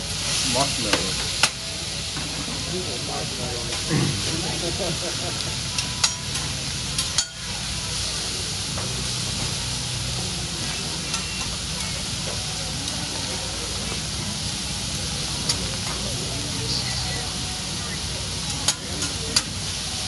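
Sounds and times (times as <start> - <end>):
vegetables sizzling on griddle: 0.0 - 20.0.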